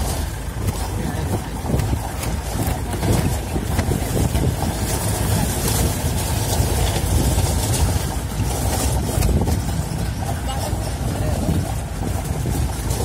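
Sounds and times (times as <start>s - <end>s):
jeep engine and tyre rumble: 0.0s - 13.0s
wind buffeting microphone: 0.0s - 13.0s.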